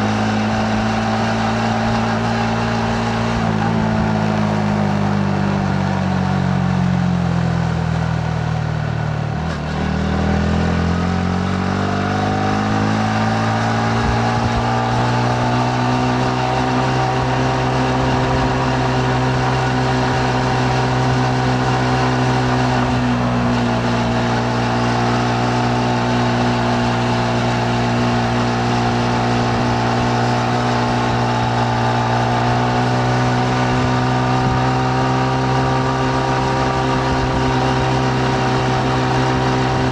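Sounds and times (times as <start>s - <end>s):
motorcycle engine while riding: 0.0s - 39.9s
wind and road noise: 0.0s - 39.9s.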